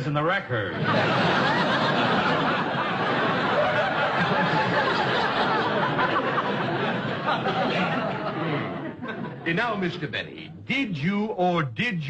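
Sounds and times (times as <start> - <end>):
audience laughing: 0.7 - 10.6.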